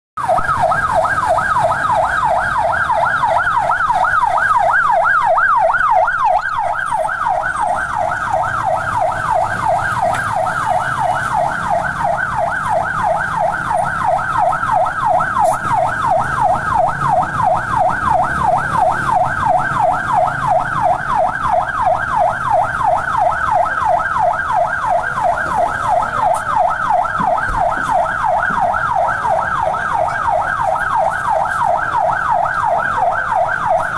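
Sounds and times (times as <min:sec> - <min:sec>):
warbling emergency siren: 0:00.2 - 0:33.9.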